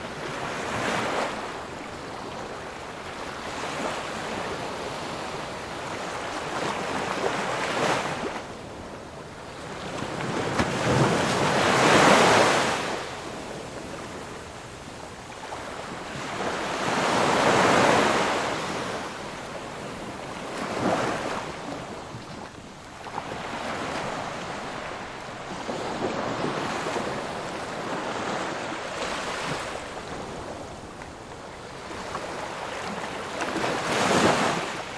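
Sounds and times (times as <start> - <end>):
ocean waves breaking on shore: 0.0 - 34.9.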